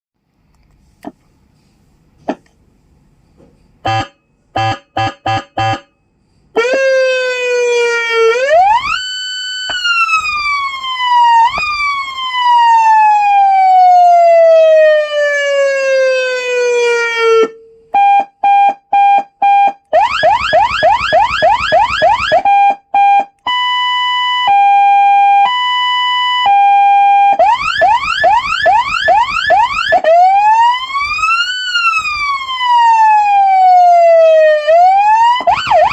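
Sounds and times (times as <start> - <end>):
police siren cycling tones: 3.9 - 5.9, 6.6 - 35.9.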